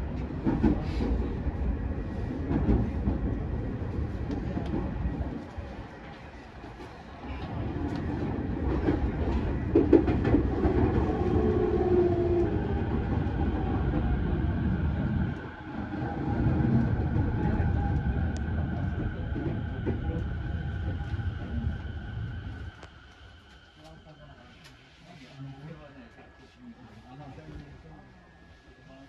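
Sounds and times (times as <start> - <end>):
train wheels rumbling on rail: 0.0 - 23.7.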